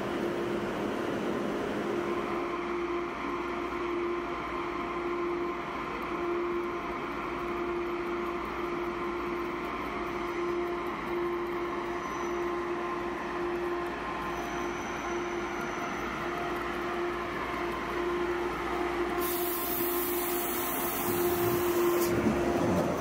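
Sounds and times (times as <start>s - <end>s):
electric train humming and whining: 0.0s - 23.0s
train low rumble: 0.0s - 23.0s.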